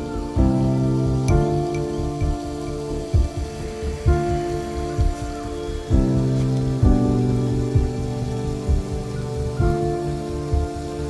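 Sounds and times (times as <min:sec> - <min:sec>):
slow sustained chords music: 0:00.0 - 0:11.0
soft low thuds: 0:00.0 - 0:11.0.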